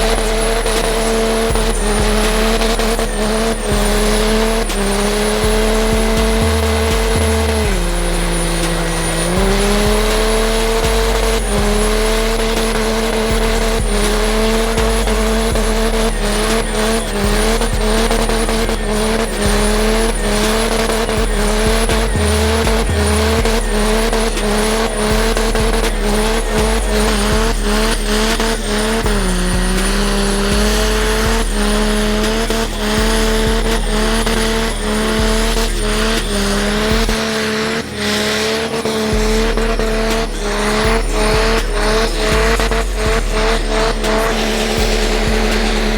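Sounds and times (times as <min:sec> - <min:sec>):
rapid crackles: 0:00.0 - 0:45.9
tires spinning and squealing: 0:00.0 - 0:45.9
truck engine at high revs: 0:00.0 - 0:45.9.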